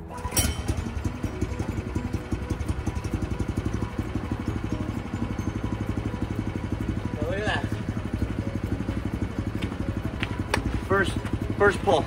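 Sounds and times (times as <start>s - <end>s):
gasoline engine idling: 0.0s - 12.0s.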